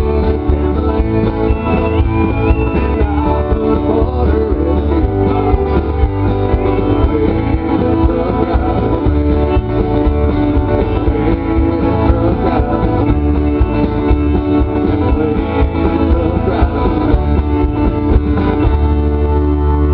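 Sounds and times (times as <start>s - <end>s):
live country music: 0.0s - 19.9s.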